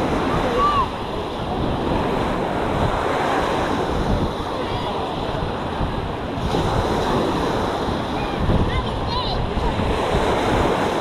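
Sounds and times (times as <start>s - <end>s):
waves washing up sand: 0.0s - 11.0s
wind buffeting microphone: 0.0s - 11.0s.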